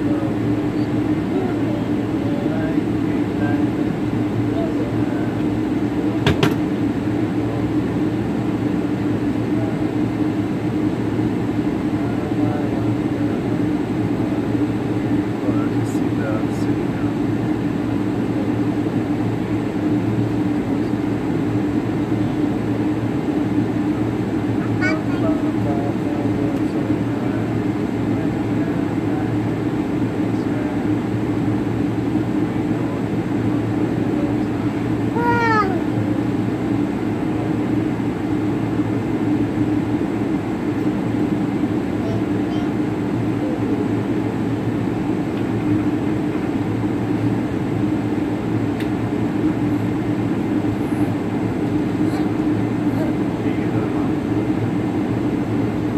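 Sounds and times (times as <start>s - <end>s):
airliner cabin drone: 0.0s - 55.9s
constant low hum: 0.0s - 55.9s.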